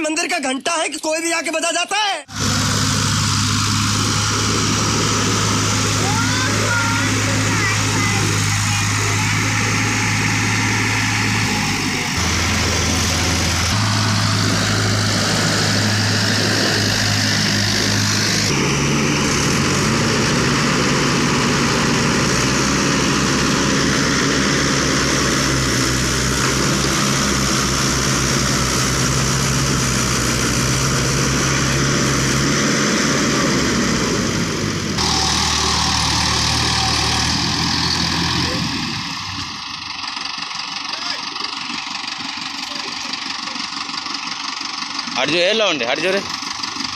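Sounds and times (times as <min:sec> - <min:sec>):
tractor engine humming: 0:02.3 - 0:46.9.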